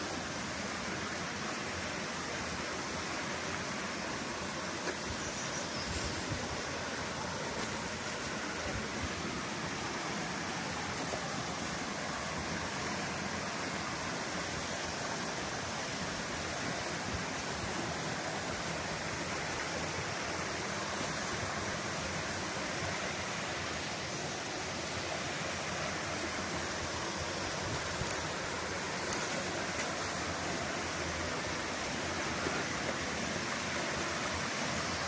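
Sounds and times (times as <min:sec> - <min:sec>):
waterfall rushing: 0:05.8 - 0:35.0.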